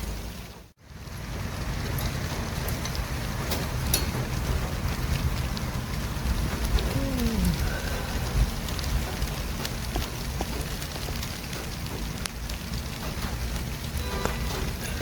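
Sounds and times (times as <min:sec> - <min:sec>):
passing vehicles rumble and hiss: 0:00.0 - 0:15.0.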